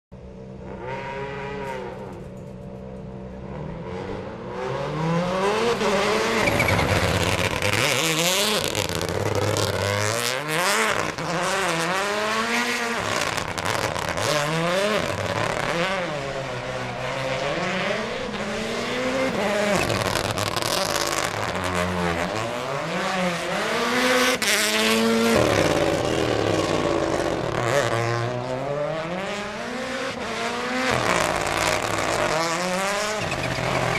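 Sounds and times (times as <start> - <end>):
rally car engine revving hard: 0.6 - 2.3, 3.3 - 33.9.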